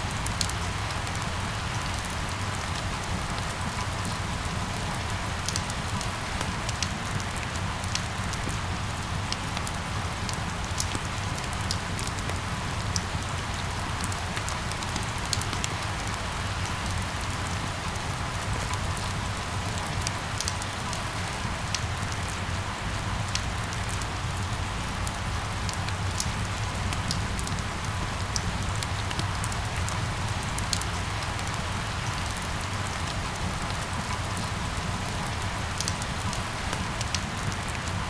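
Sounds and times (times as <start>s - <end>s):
rain drops ticking: 0.0s - 38.0s
rain falling: 0.0s - 38.0s.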